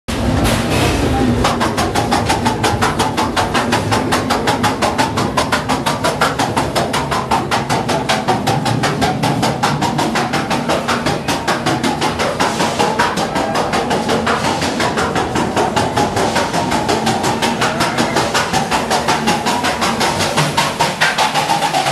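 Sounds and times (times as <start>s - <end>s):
ride car clattering on track: 0.1s - 21.9s.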